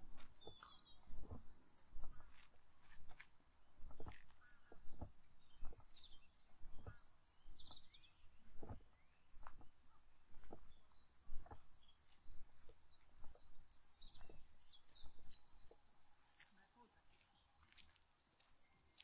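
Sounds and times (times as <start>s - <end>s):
footsteps on a path: 0.0s - 19.0s
small birds chirping: 0.0s - 19.0s.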